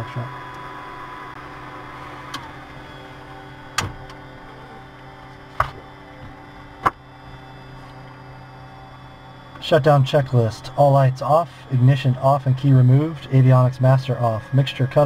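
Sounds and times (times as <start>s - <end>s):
aircraft engine idling: 0.0s - 15.0s
electronic whine: 0.0s - 15.0s.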